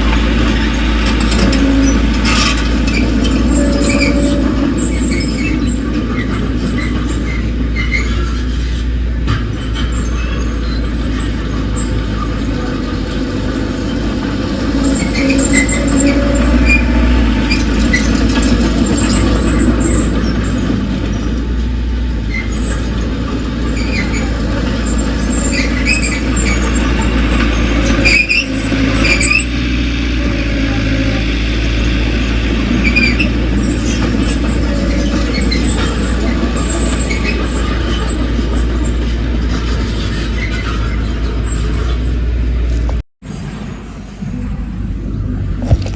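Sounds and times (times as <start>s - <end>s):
metallic squeals from steel tracks: 0.0s - 44.6s
bulldozer diesel engine running: 0.0s - 45.9s.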